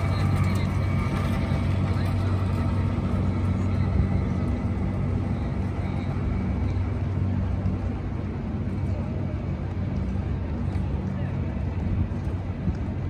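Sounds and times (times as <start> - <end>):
faint background voices: 0.0 - 13.0
steady low hum: 0.0 - 13.0.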